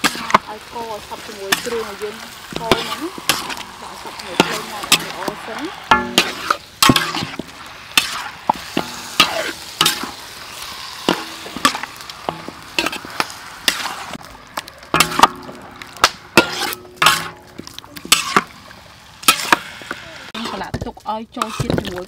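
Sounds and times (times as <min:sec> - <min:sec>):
wet squishing of meat in sauce: 0:02.2 - 0:20.4.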